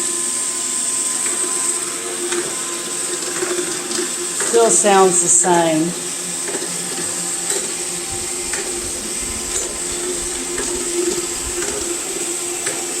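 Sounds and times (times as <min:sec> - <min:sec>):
robot vacuum motor hum and whine: 0:00.0 - 0:13.0.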